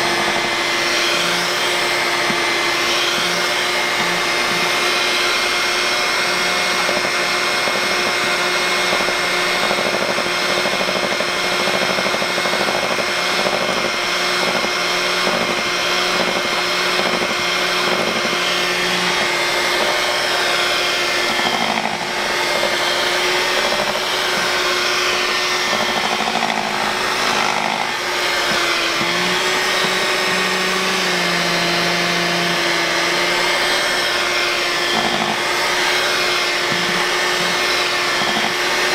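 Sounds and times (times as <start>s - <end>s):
electric hand mixer whining: 0.0s - 38.9s.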